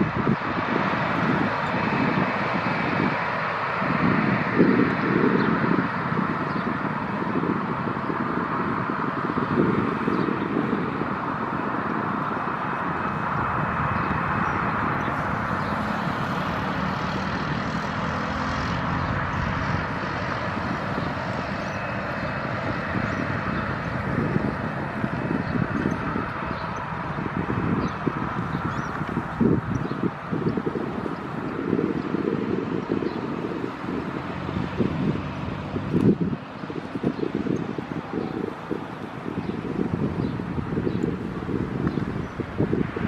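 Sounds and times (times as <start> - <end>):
jet engines whining: 0.0 - 43.0
wind gusts on microphone: 0.0 - 43.0.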